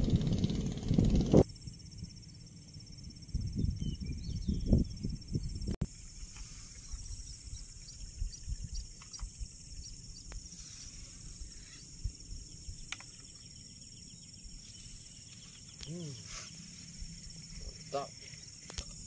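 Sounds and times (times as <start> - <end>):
insect chorus pulsing trill: 0.0 - 19.0.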